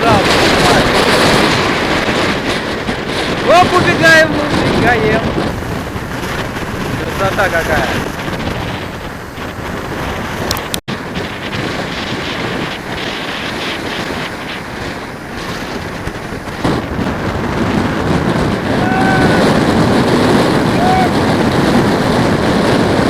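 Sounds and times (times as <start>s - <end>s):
surf breaking on shore: 0.0s - 23.0s
wind blasting microphone: 0.0s - 23.0s.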